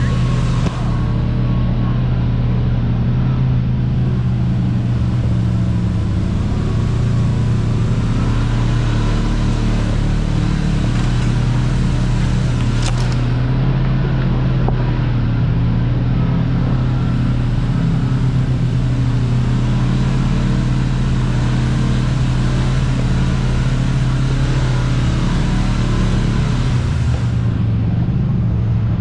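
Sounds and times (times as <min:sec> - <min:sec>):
off-road vehicle engine running: 0:00.0 - 0:29.0.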